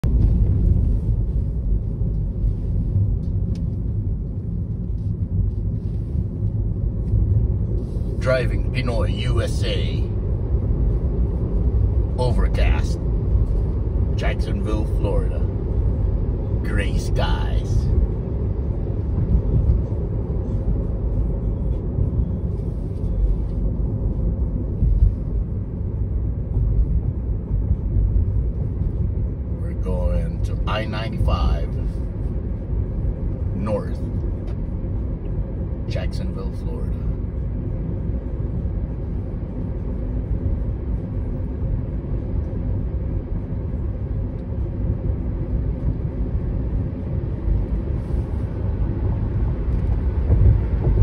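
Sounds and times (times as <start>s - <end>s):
road and tyre noise in car: 0.0s - 51.0s.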